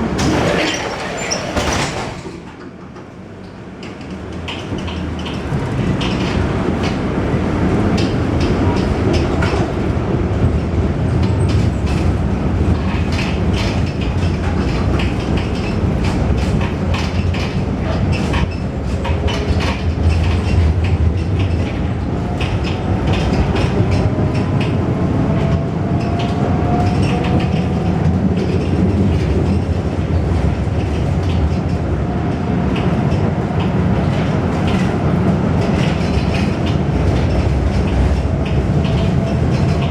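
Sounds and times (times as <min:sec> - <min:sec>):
clacks over rail joints: 0:00.0 - 0:39.9
tram wheels rumbling on rails: 0:00.0 - 0:39.9.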